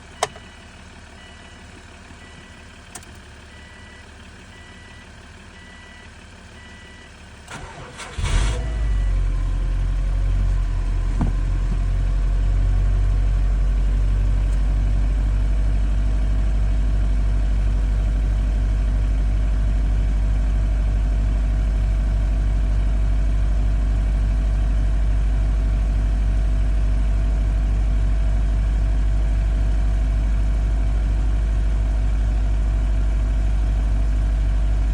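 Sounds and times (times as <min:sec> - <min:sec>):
car engine starting and idling: 0:00.0 - 0:34.9.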